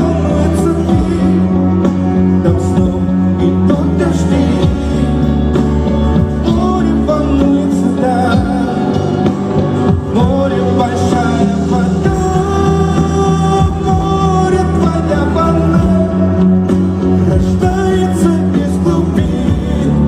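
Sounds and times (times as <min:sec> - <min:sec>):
live pop-rock band: 0:00.0 - 0:20.0
person singing: 0:00.0 - 0:20.0.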